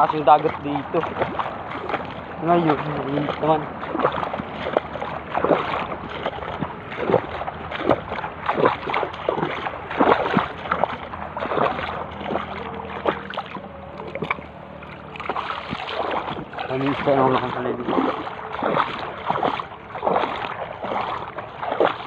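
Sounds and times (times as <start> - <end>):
water splashing around wading legs: 0.0 - 22.0.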